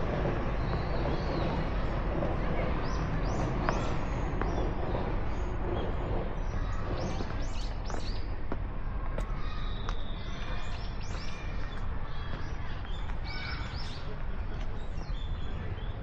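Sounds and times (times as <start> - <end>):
low background rumble: 0.0 - 16.0
small birds chirping: 0.5 - 1.8, 2.7 - 8.3, 9.4 - 16.0.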